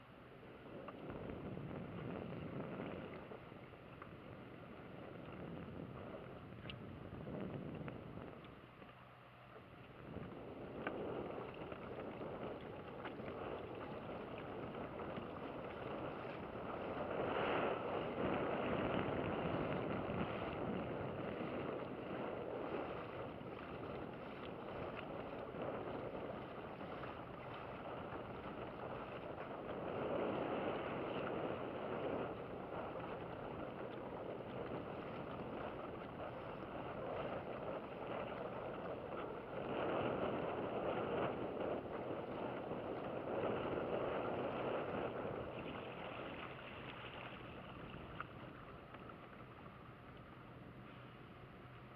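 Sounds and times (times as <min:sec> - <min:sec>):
boat motor: 0:00.0 - 0:51.9
wind and water rushing: 0:00.0 - 0:51.9.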